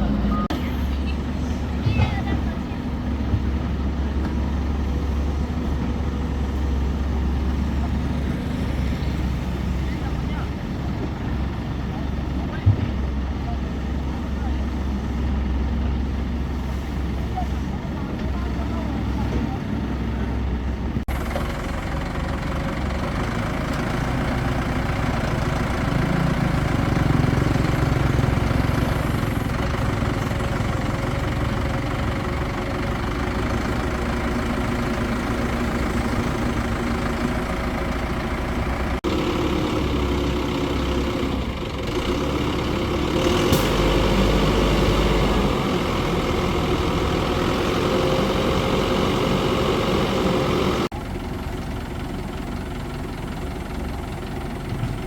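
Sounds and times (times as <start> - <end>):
crane engine idling: 0.0 - 55.0.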